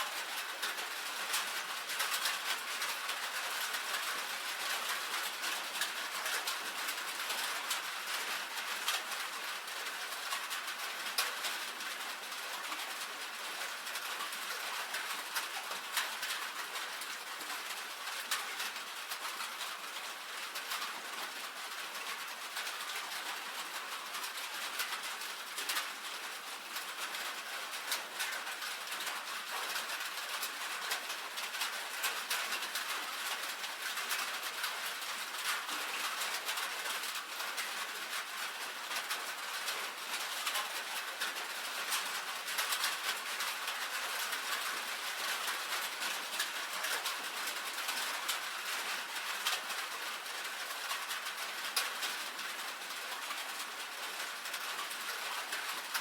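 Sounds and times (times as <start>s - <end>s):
raindrops ticking on metal: 0.0s - 56.0s.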